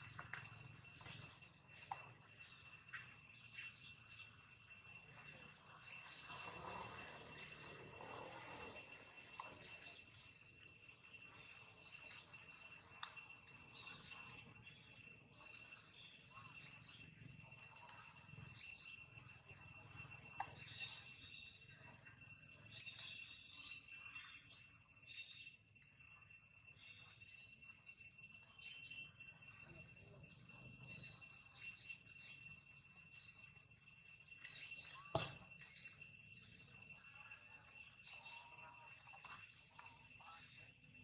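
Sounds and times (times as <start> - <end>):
insect drone: 0.0 - 41.0.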